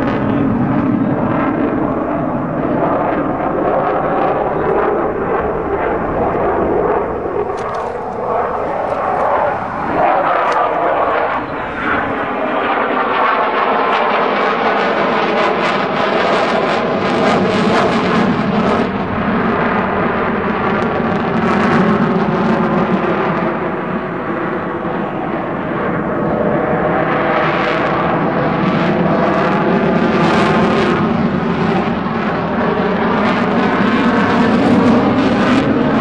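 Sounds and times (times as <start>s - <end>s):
loud crackling jet noise: 0.0s - 36.0s.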